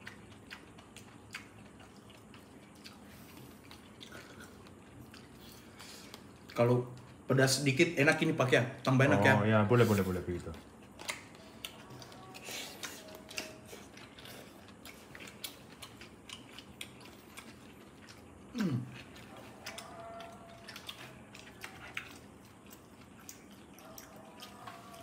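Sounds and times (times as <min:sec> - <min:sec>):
chewing: 0:00.0 - 0:07.3, 0:09.1 - 0:25.0.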